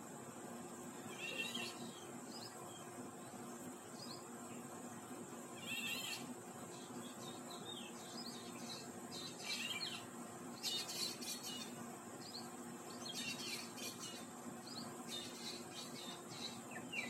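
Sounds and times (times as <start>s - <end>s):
steady high-pitched hiss: 0.0s - 17.0s
birds chirping: 1.0s - 4.7s, 5.6s - 17.0s.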